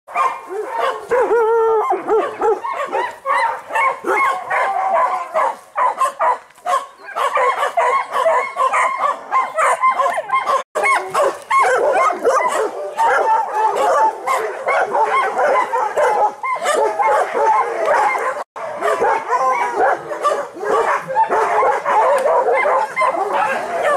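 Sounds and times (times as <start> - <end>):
dogs barking and howling: 0.1 - 23.9.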